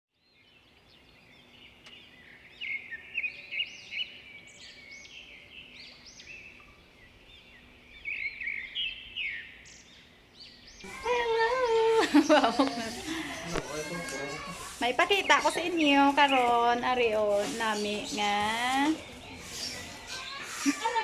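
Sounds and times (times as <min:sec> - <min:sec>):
lovebirds chirping and chattering: 0:00.2 - 0:21.0.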